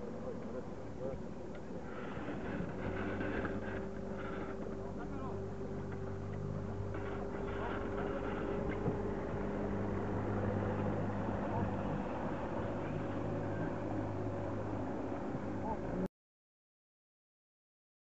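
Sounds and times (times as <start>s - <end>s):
motorboat engine droning: 0.0s - 16.1s.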